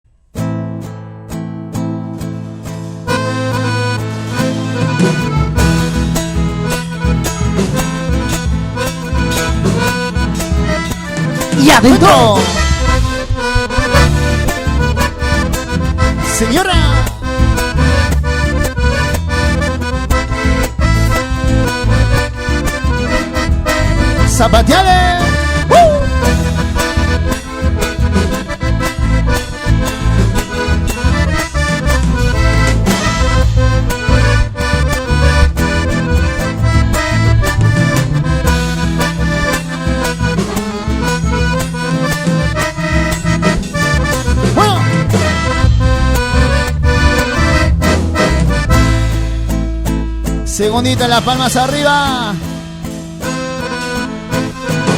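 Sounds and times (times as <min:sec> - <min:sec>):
bass: 0:00.0 - 0:54.9
strummed guitar: 0:00.1 - 0:54.9
accordion melody: 0:00.4 - 0:54.9
steady pulsing beat: 0:03.1 - 0:54.9.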